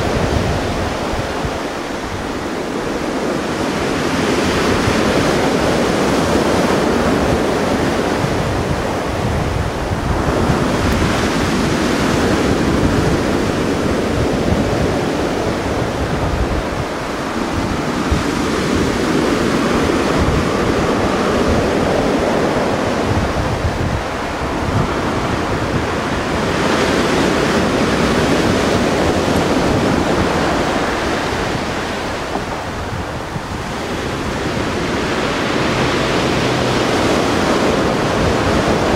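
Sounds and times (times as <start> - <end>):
sea waves washing: 0.0 - 38.9
wind buffeting microphone: 0.0 - 38.9.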